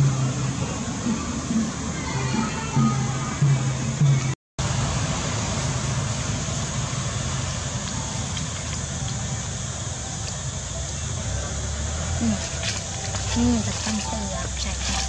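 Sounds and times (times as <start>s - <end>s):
outdoor rushing hiss: 0.1s - 15.0s.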